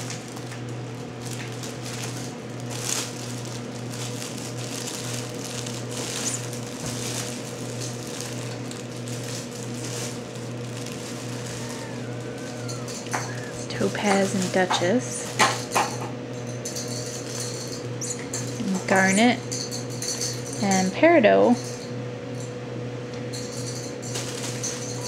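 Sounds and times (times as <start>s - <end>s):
kittens tapping and rustling: 0.0s - 20.8s, 23.2s - 25.0s
steady low hum: 0.0s - 25.0s.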